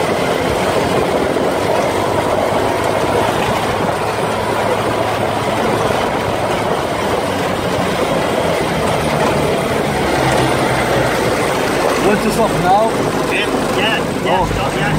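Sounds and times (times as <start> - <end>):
buggy engine running: 0.0 - 14.9
tyres on gravel: 0.0 - 14.9.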